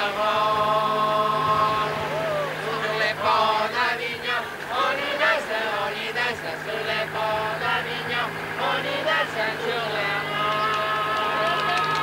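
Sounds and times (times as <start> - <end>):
steady low hum: 0.0 - 12.0
voices chanting a tune: 0.0 - 12.0.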